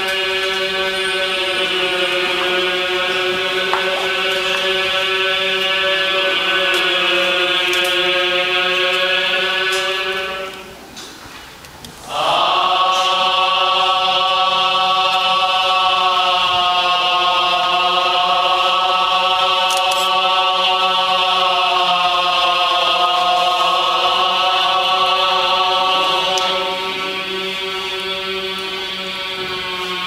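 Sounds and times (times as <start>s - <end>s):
chanting in long held notes: 0.0s - 11.2s, 11.9s - 30.0s.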